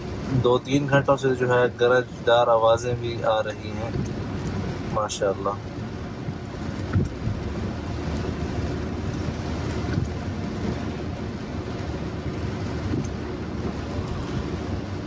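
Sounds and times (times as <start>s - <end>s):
car driving on wet streets: 0.0s - 15.0s
heavy rain: 0.0s - 15.0s.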